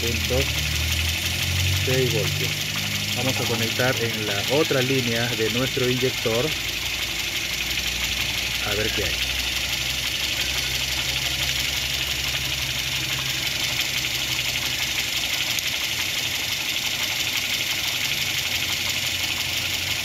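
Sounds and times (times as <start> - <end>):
car engine idling: 0.0 - 20.0
engine hiss: 0.0 - 20.0.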